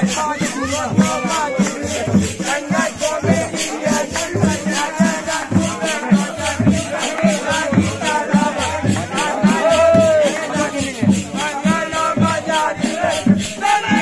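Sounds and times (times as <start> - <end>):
hand drums beating: 0.0 - 14.0
men singing folk song: 0.0 - 14.0
small metal cymbals shaken: 0.0 - 14.0.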